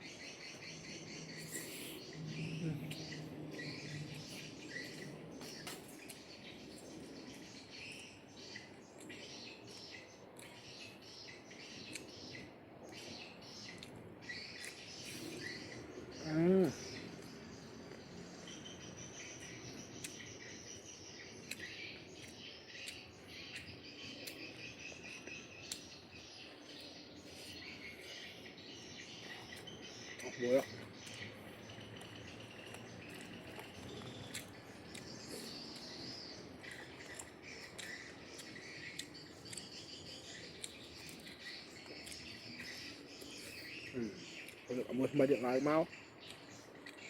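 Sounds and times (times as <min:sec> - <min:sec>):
crunchy chewing: 0:00.0 - 0:16.1, 0:16.7 - 0:47.0
birds chirping: 0:00.0 - 0:47.0.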